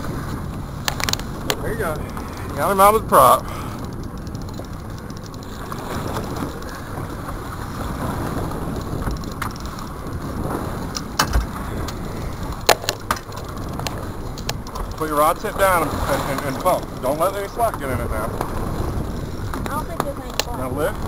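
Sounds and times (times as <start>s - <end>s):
water splashing at boat side: 0.0s - 21.0s
wind and boat rumble: 0.0s - 21.0s.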